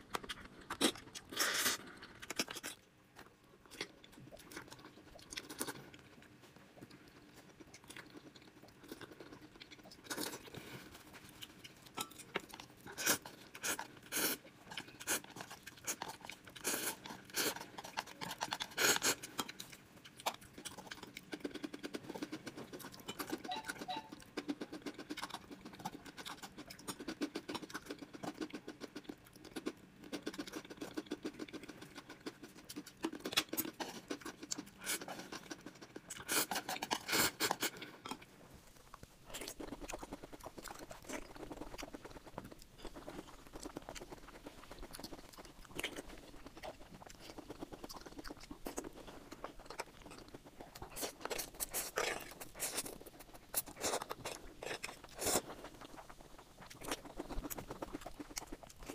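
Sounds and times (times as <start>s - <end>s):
chewing and slurping noodles: 0.0s - 58.9s.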